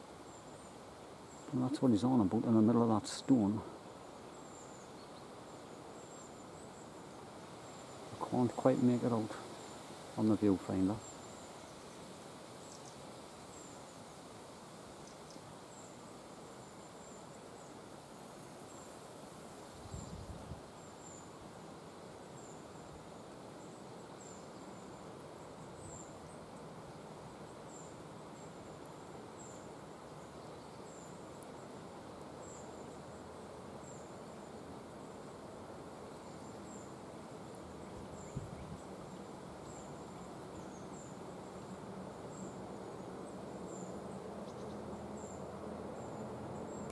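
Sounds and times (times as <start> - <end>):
outdoor background noise: 0.0 - 46.9.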